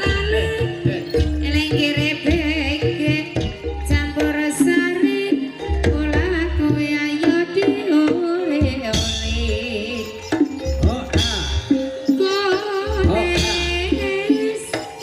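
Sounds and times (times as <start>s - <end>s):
deep hand drum beats: 0.0s - 15.0s
melodic percussion: 0.0s - 15.0s
person singing: 0.0s - 15.0s.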